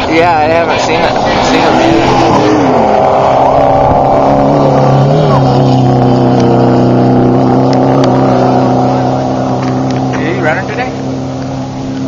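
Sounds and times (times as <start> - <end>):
race car engine running hard: 0.0 - 12.0.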